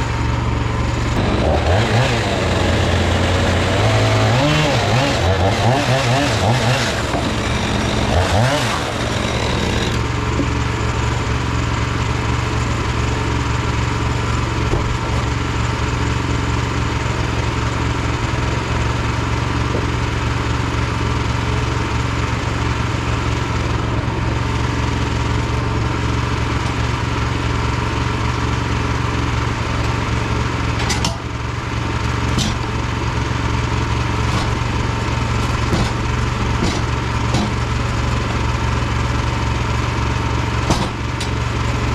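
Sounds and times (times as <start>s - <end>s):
sawmill engine sawing log: 0.0s - 41.9s.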